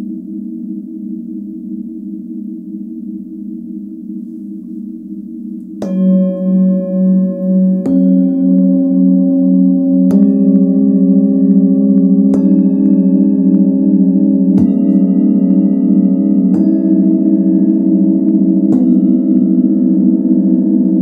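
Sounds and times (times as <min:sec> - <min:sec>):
singing bowls ringing: 0:00.0 - 0:21.0.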